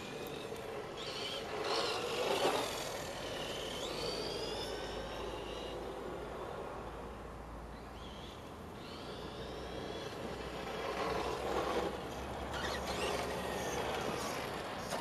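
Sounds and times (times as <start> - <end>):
rc car electric motor whining: 0.0 - 6.5, 7.7 - 15.0.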